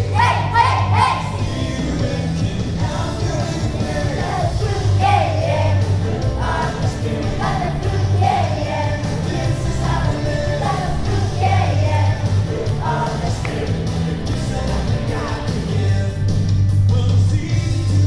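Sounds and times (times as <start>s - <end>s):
person singing with band: 0.0s - 16.3s.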